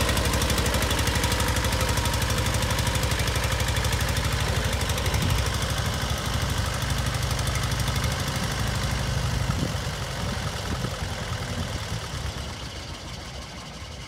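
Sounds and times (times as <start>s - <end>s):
tractor engine idling unevenly: 0.0s - 14.0s.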